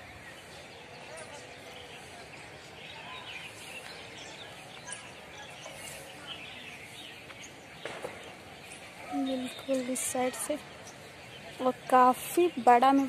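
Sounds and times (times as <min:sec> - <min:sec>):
small birds chirping: 0:00.0 - 0:13.0
steady outdoor hum: 0:00.0 - 0:13.0.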